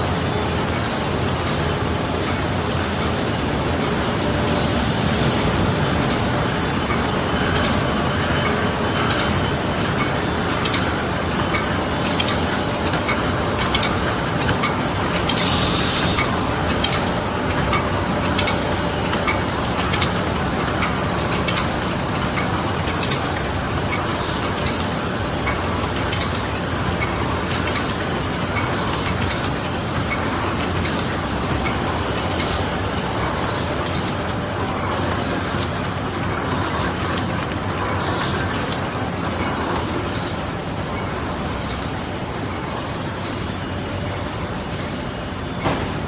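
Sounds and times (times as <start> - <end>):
machine clattering: 0.1 - 46.0.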